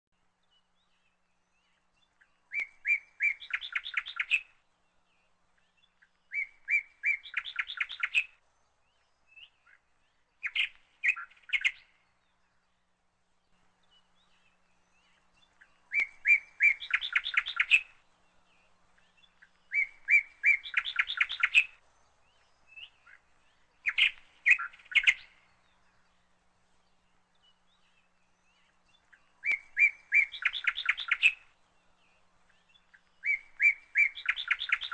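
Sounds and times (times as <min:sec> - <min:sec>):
songbird singing: 0:00.1 - 0:34.9.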